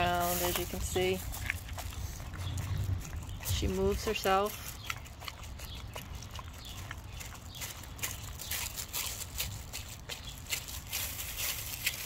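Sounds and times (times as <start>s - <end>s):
dog licking: 0.0s - 10.4s.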